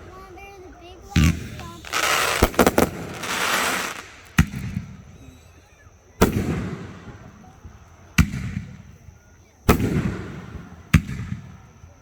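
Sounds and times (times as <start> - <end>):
fireworks bangs: 0.0 - 5.6, 6.2 - 12.0.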